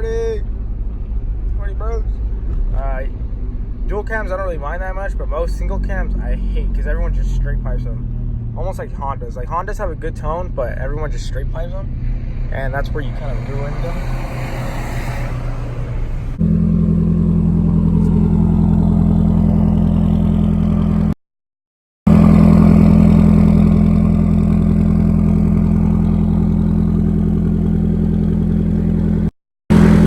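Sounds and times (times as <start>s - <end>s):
loud car engine running: 0.0s - 21.2s, 22.1s - 30.0s.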